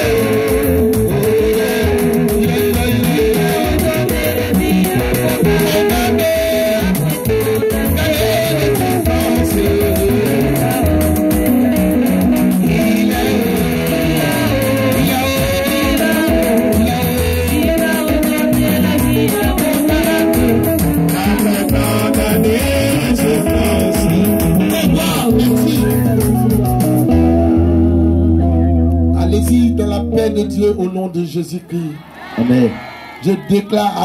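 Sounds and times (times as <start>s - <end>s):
loud music with guitar and singing: 0.0s - 30.9s.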